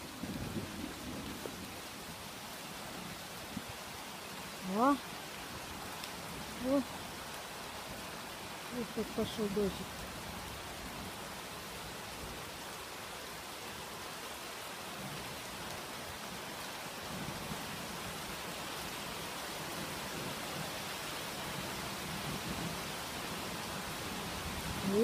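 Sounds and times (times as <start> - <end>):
rain falling on trees: 0.0 - 25.0.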